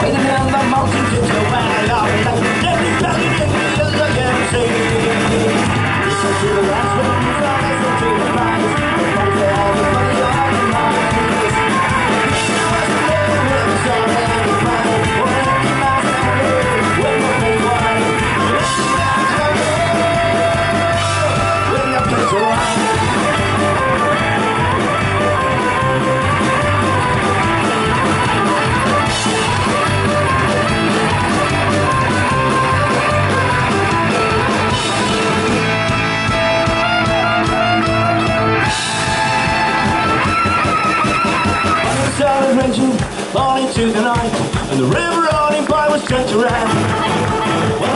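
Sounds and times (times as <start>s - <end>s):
live folk-punk band: 0.0s - 47.9s.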